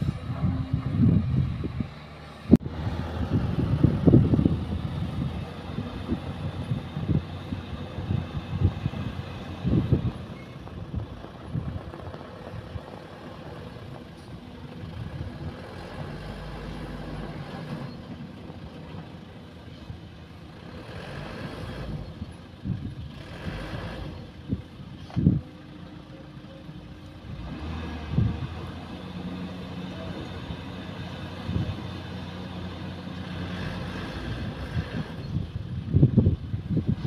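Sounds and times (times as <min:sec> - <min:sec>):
distant diesel engines humming: 0:00.0 - 0:37.0.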